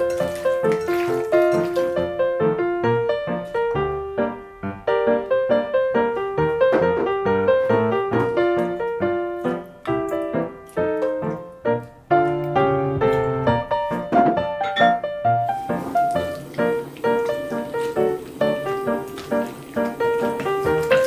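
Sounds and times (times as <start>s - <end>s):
solo piano melody: 0.0s - 21.0s.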